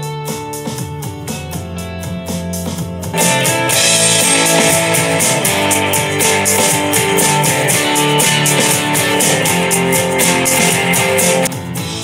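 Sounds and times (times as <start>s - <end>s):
rock music through speaker: 0.0s - 12.0s.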